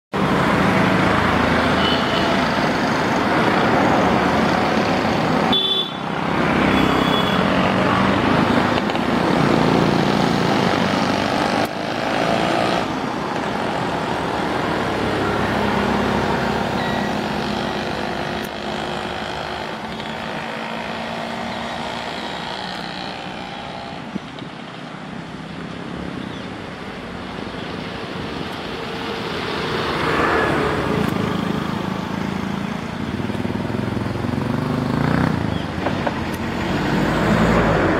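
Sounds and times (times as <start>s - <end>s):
road traffic rumble: 0.1s - 37.9s.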